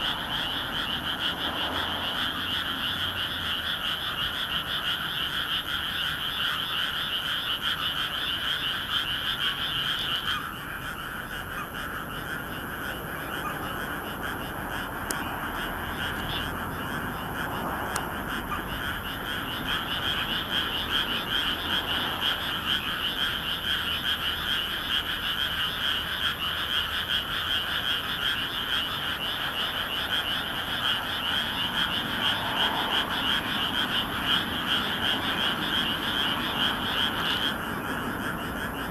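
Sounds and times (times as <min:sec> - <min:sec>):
high-pitched frog calls: 0:00.0 - 0:38.9
low frog croaks: 0:00.0 - 0:38.9.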